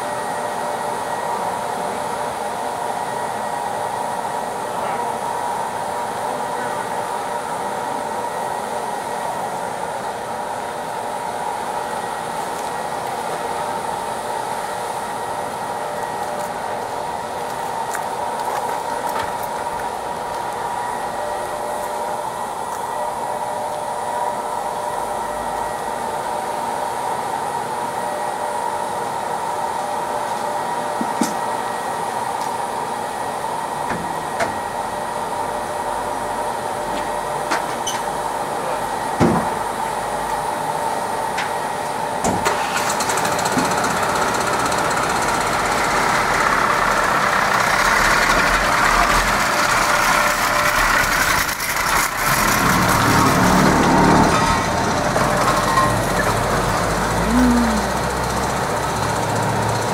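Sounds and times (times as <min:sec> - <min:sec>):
road-repair machinery roaring: 0:01.1 - 0:27.0, 0:33.8 - 0:59.9.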